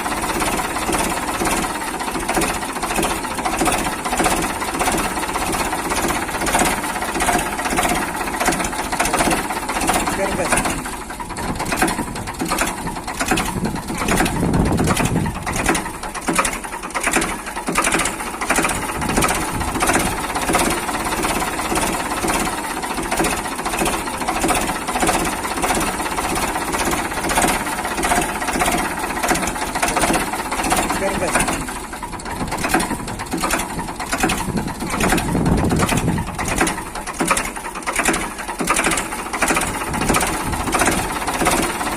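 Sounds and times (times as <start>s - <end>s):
fast mechanical rattle: 0.0s - 41.9s
tractor motor running: 0.0s - 41.9s.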